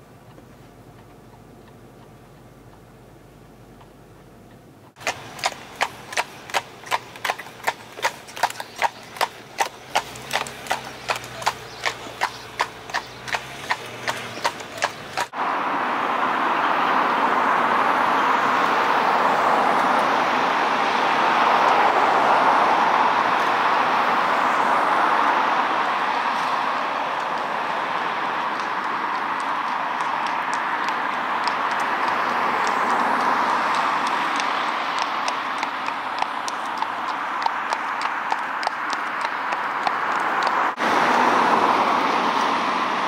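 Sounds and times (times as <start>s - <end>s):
horse hooves clip-clopping on road: 0.0s - 15.4s, 18.4s - 43.0s
road traffic rushing: 0.0s - 43.0s.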